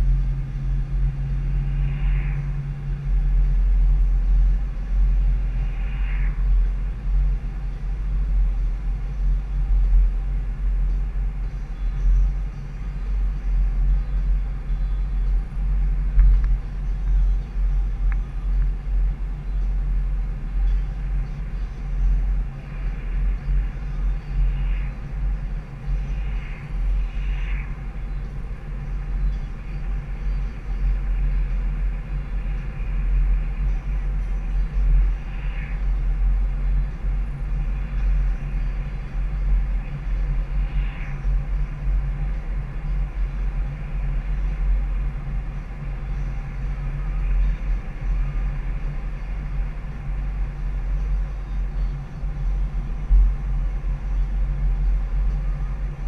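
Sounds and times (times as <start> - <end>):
tyre and engine rumble: 0.0 - 56.0.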